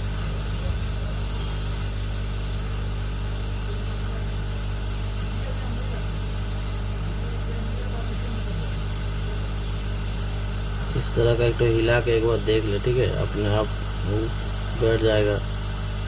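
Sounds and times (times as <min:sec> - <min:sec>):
hot-air station blowing hiss: 0:00.0 - 0:16.0
low electrical hum: 0:00.0 - 0:16.0.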